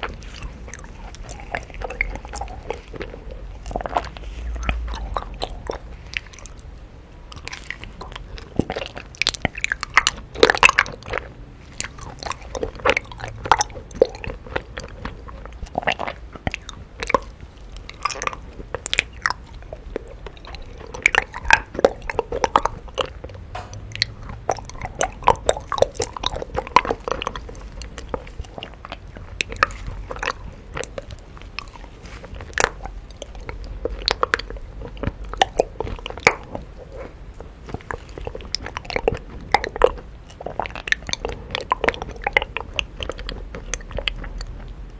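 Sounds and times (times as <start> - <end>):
chewing crunchy honeycomb: 0.0 - 44.9.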